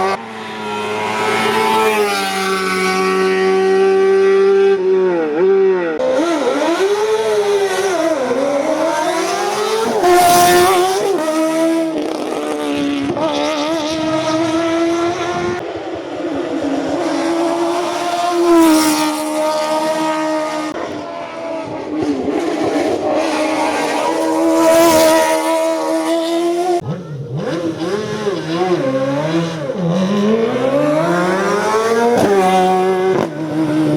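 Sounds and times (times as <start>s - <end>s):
racing car engine accelerating: 0.0s - 33.9s.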